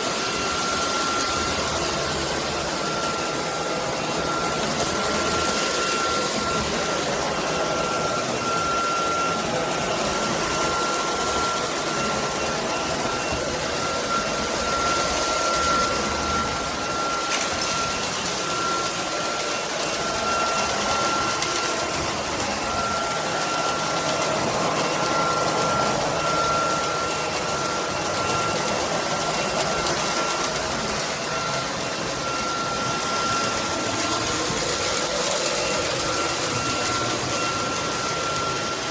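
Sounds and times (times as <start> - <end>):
stick vacuum running: 0.0 - 38.9.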